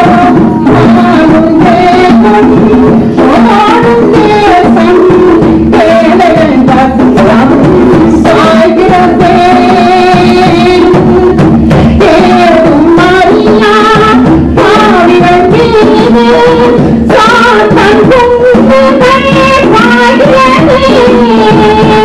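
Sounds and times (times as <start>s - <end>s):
loud distorted live music: 0.0s - 22.0s.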